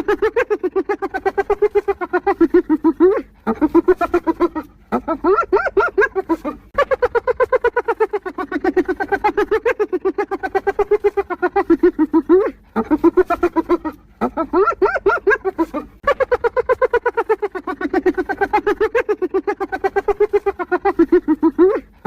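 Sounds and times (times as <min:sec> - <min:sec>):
hyena laughing: 0:00.0 - 0:22.0.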